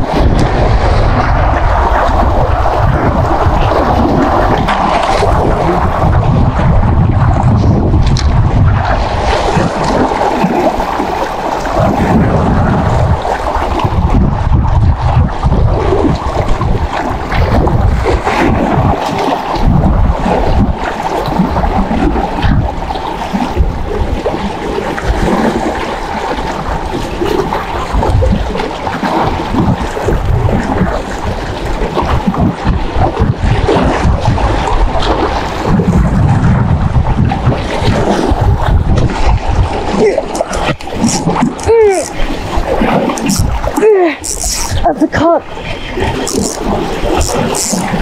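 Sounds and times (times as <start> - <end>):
waves washing against rock: 0.0 - 48.0
wind buffeting microphone: 0.0 - 48.0.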